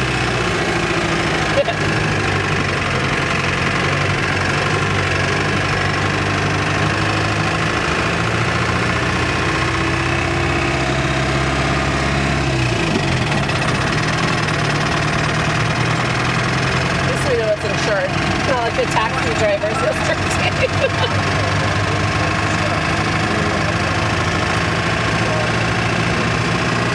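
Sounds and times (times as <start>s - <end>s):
truck engine running: 0.0s - 26.9s.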